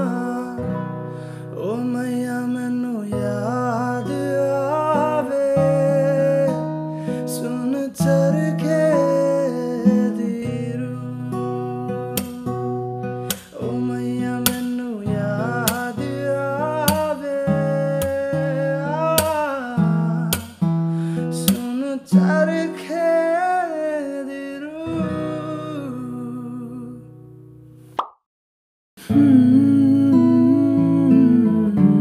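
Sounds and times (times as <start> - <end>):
person singing wordless melody: 0.0 - 27.2, 29.0 - 32.0
acoustic guitar strumming chords: 0.0 - 27.9, 29.0 - 32.0.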